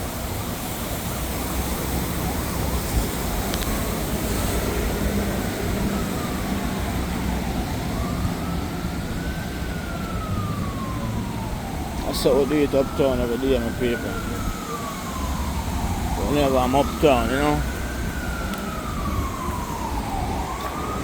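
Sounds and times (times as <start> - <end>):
city traffic noise: 0.0 - 21.0
emergency vehicle siren wailing: 0.0 - 21.0.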